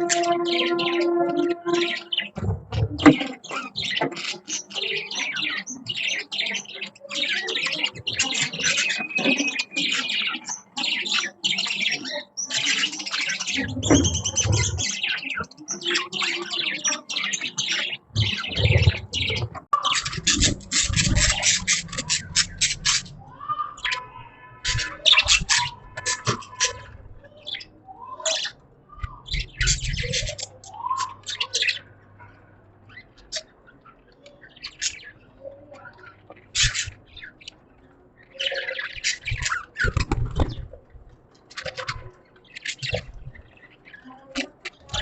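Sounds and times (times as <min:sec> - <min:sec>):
budgerigars chattering: 0:00.0 - 0:40.8, 0:41.4 - 0:45.0.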